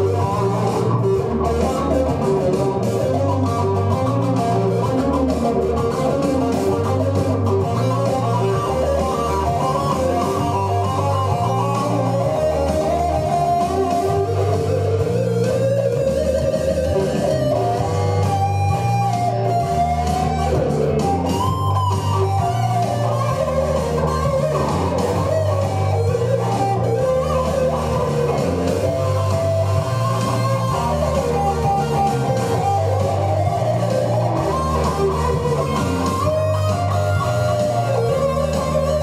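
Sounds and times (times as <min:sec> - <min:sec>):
bass line: 0:00.0 - 0:39.0
electric guitar solo: 0:00.0 - 0:39.0.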